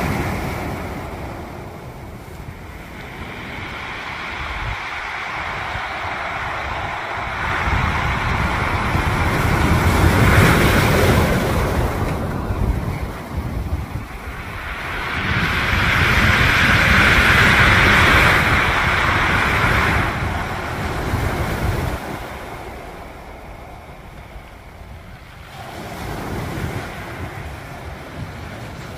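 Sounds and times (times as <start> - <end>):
waves crashing on pebble beach: 0.0 - 28.9
wind buffeting microphone: 0.0 - 28.9.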